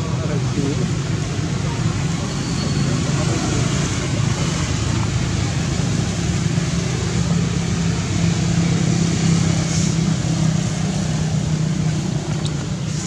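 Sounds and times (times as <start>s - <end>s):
loud rumble and hiss: 0.0s - 13.0s.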